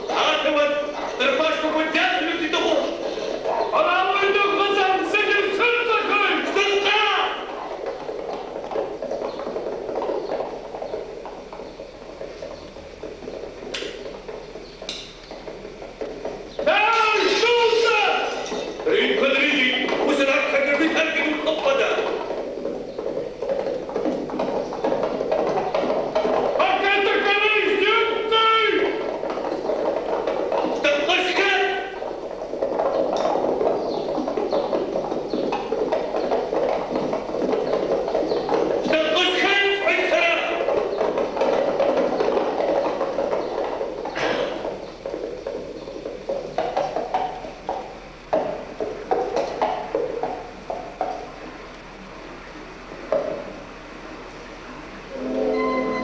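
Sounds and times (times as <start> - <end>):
hoofbeats on dirt track: 0.0 - 56.0
horse hooves clopping: 0.0 - 56.0.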